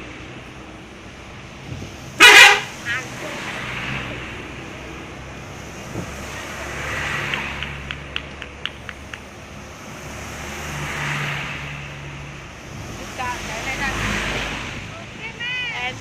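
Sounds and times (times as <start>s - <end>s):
road traffic engine hum: 0.0s - 16.0s
vehicles passing: 0.0s - 16.0s.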